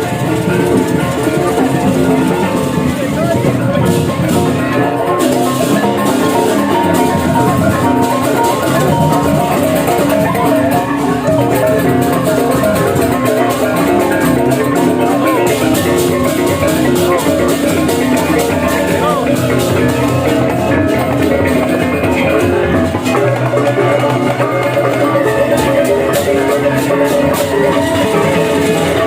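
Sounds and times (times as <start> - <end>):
metallophones ringing: 0.0 - 29.0
steady drumming: 0.0 - 29.0.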